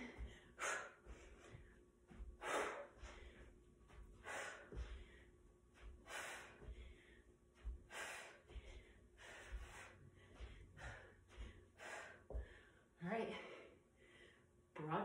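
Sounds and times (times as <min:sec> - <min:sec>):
woman breathing hard: 0:00.0 - 0:14.6.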